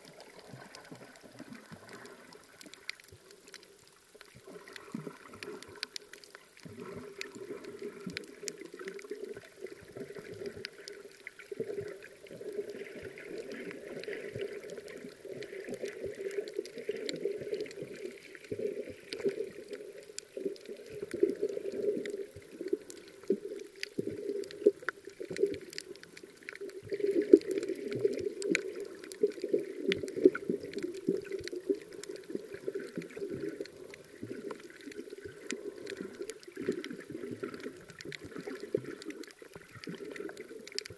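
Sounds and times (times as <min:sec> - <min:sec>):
faint clicks and crackles: 0:00.0 - 0:40.9
muffled underwater wash: 0:00.0 - 0:40.9.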